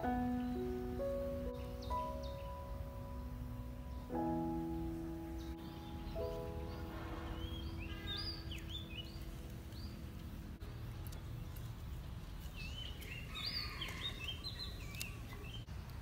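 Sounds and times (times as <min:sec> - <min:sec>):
birds chirping: 0:00.0 - 0:16.0
low outdoor rumble: 0:00.0 - 0:16.0.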